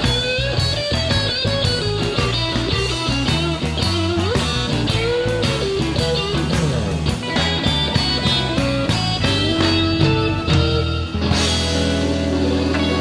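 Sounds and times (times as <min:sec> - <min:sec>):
bass: 0:00.0 - 0:13.0
electric guitar lead: 0:00.0 - 0:13.0
steady drum beat: 0:00.0 - 0:13.0.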